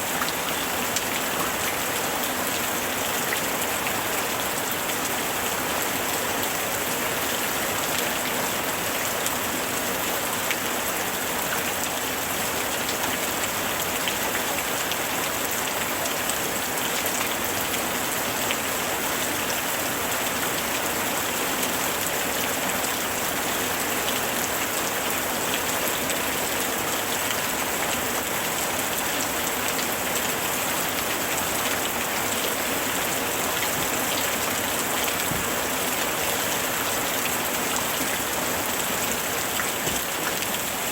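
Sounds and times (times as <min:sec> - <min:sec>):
rain falling: 0:00.0 - 0:40.9
raindrops ticking on surfaces: 0:00.0 - 0:40.9.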